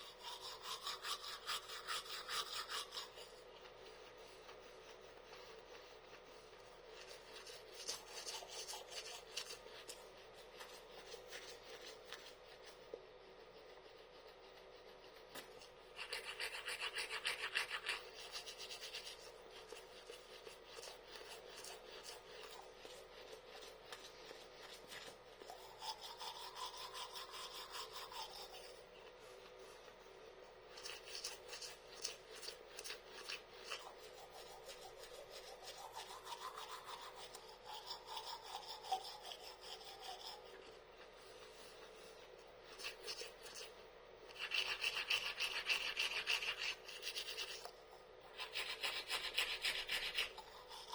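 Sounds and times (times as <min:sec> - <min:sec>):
toothbrush scrubbing teeth: 0:00.0 - 0:50.9.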